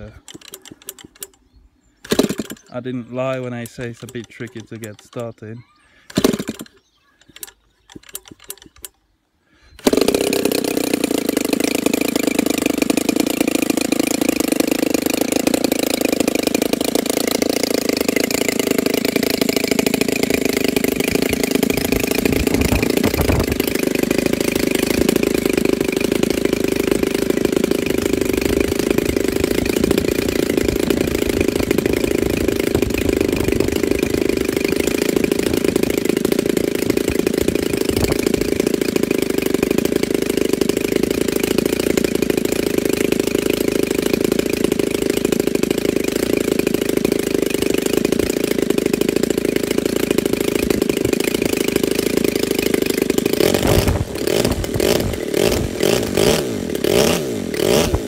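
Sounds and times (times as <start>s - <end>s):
propeller flicks: 0.0s - 5.4s, 6.1s - 9.0s, 9.8s - 58.0s
model aircraft engine running: 2.0s - 8.9s, 9.6s - 58.0s.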